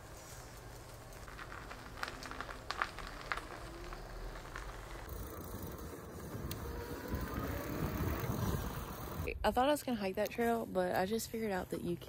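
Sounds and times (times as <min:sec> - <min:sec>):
low rumbling: 0:00.0 - 0:09.9.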